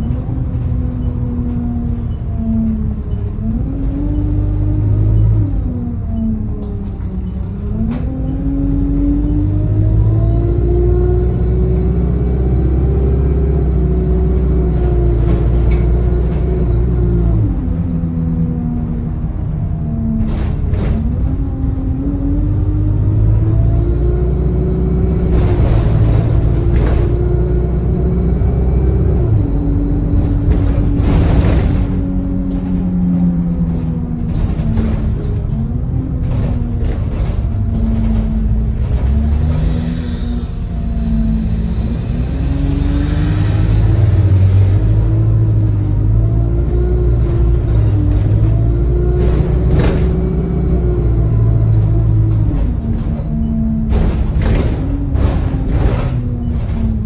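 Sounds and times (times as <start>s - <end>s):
bus engine rumble: 0.0s - 57.0s
drivetrain whine: 0.0s - 57.0s.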